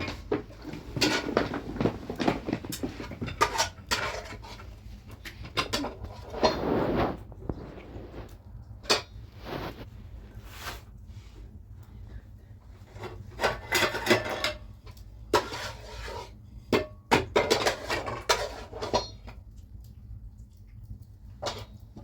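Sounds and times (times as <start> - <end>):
objects scraping and clattering: 0.0 - 11.5, 12.7 - 19.4.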